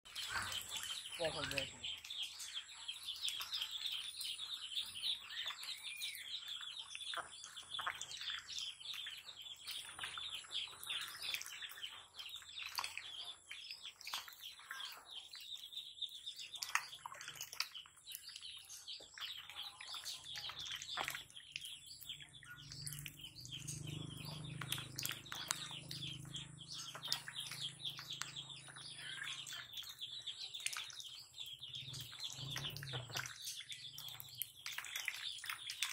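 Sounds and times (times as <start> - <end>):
small birds chirping: 0.0 - 35.9
ducks splashing in water: 0.1 - 35.9.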